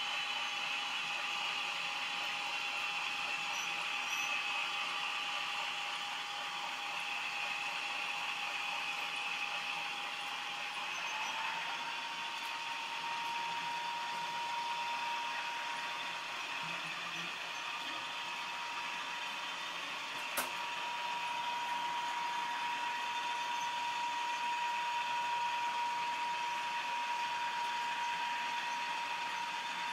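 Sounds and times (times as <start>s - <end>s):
diesel engine sound from small speaker: 0.0s - 29.9s
model motor whine: 0.0s - 29.9s.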